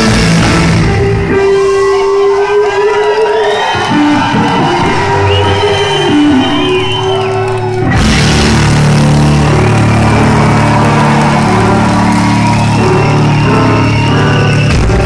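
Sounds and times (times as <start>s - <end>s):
distorted electric guitar: 0.0s - 15.0s
live rock band: 0.0s - 15.0s.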